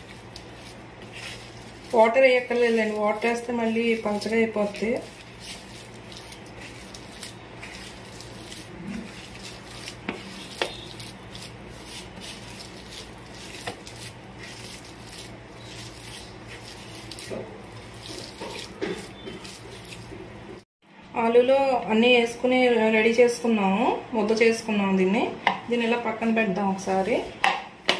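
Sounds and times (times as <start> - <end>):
hand kneading soft mixture: 0.0 - 20.7, 25.7 - 27.9.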